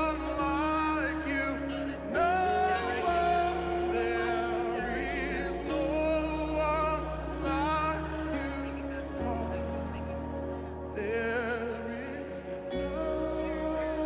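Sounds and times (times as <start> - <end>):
person singing long held notes: 0.0 - 14.0
sustained chords over deep bass: 0.0 - 14.0.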